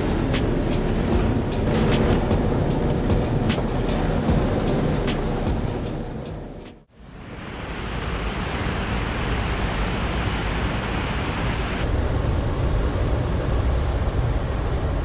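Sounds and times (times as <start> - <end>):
loud rushing noise: 0.0 - 15.0.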